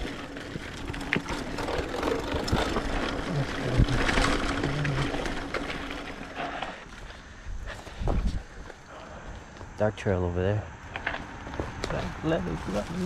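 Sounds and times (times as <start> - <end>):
mountain bike on dirt trail: 0.0 - 10.2, 10.8 - 13.0.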